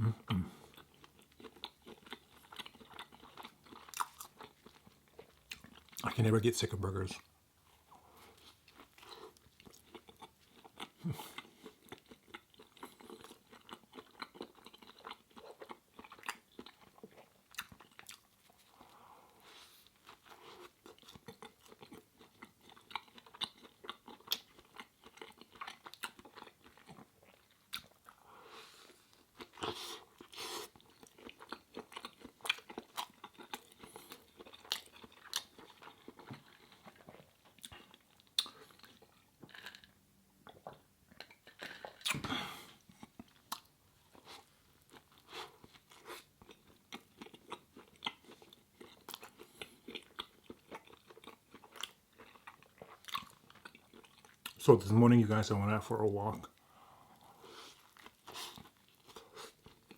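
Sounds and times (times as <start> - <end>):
person chewing food: 0.0 - 6.0, 6.9 - 54.6, 56.5 - 59.9.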